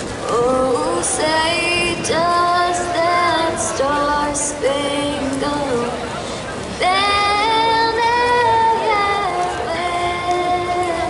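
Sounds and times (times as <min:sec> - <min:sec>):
girl singing: 0:00.3 - 0:06.0, 0:06.8 - 0:11.0.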